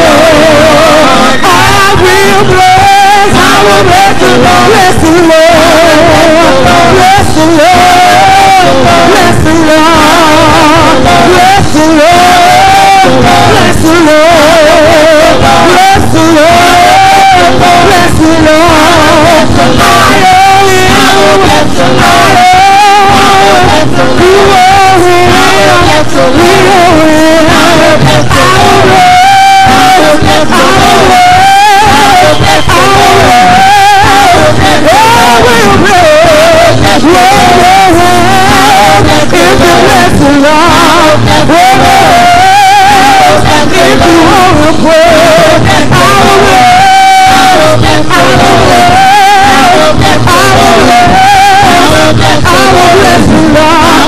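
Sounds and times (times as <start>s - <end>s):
gospel singers with vibrato: 0.0s - 54.0s
live band accompaniment: 0.0s - 54.0s.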